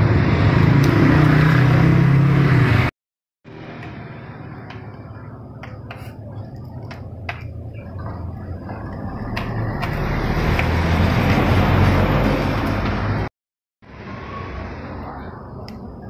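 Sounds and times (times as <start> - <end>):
vehicle approaching: 0.0 - 2.9, 3.5 - 16.0
road traffic hum: 0.0 - 16.0.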